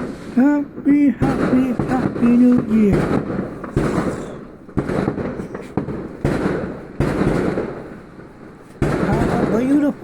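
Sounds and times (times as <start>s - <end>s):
fireworks bangs with rumble: 0.0s - 10.0s.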